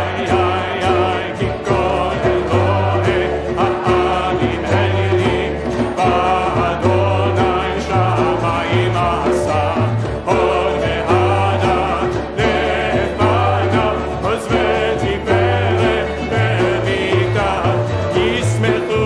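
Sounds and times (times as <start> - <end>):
group singing together: 0.0 - 19.0
hand drum beating: 0.0 - 19.0
low bass notes: 0.0 - 19.0.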